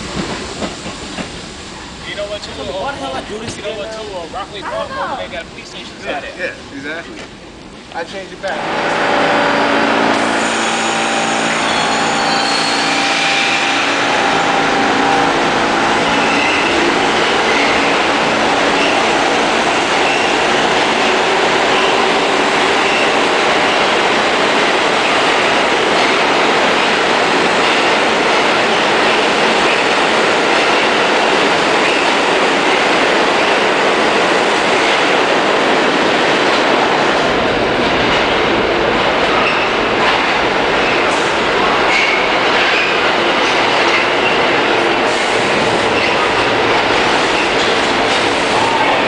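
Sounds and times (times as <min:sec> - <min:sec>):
subway train wheels rumbling on rail: 0:00.0 - 0:49.0.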